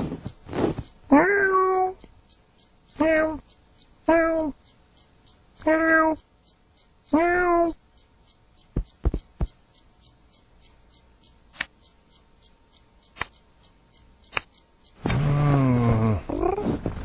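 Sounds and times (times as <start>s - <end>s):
faint even ticking: 0.0s - 17.0s
sharp clicks and taps: 0.0s - 17.0s.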